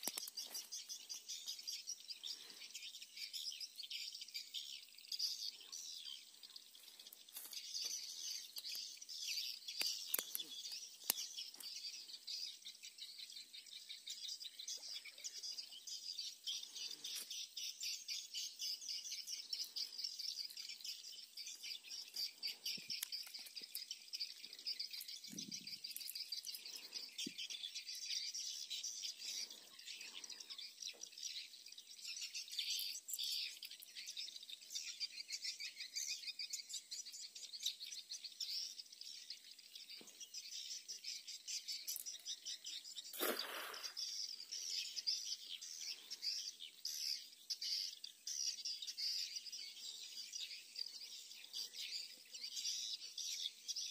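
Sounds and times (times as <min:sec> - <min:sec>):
birds and insects chirping: 0:00.0 - 0:53.9.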